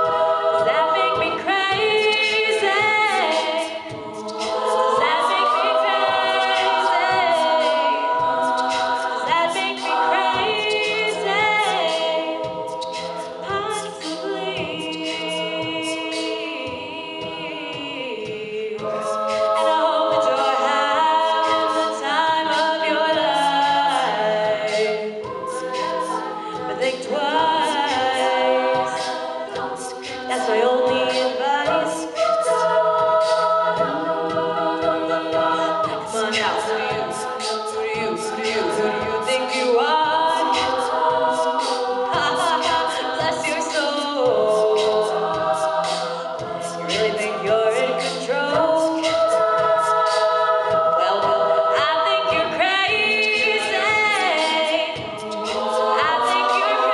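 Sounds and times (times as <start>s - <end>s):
vocal percussion beat: 0.0s - 56.9s
women singing close chords: 0.0s - 56.9s.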